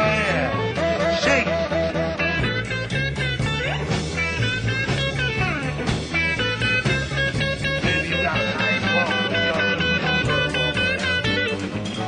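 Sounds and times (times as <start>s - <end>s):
electric blues band playing: 0.0s - 12.0s.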